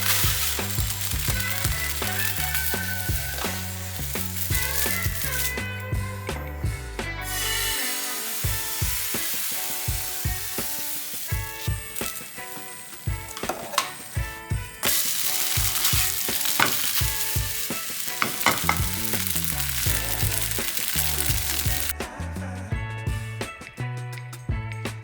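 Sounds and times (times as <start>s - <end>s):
food sizzling in hot oil: 0.0s - 6.0s, 7.2s - 21.9s
music with steady beat: 0.0s - 25.0s.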